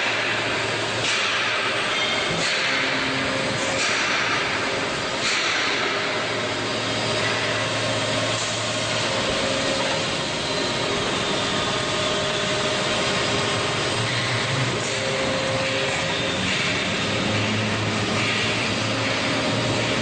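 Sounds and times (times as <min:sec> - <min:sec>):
hydraulic pump humming: 0:00.0 - 0:20.0.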